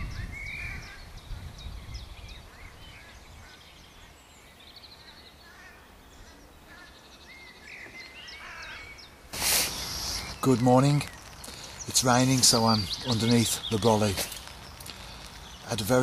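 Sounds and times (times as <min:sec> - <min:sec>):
small birds chirping: 0:00.0 - 0:16.0
bird trill: 0:01.9 - 0:16.0.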